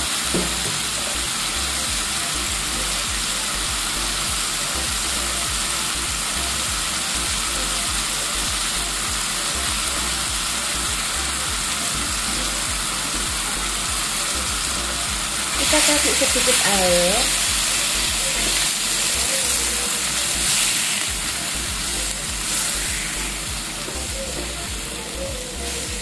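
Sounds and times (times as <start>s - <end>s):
meat sizzling in a frying pan: 0.0s - 26.0s.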